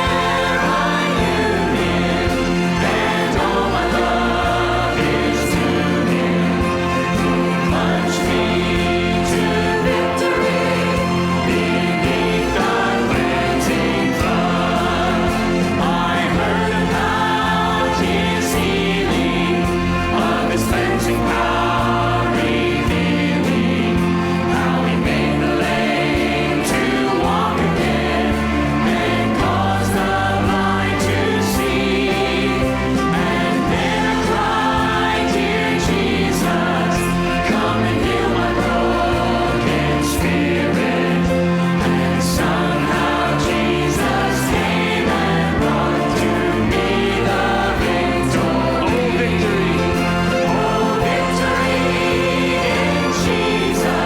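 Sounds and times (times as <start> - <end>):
congregation singing a hymn: 0.0 - 54.0
held bass notes: 0.0 - 54.0
instrumental accompaniment: 0.0 - 54.0.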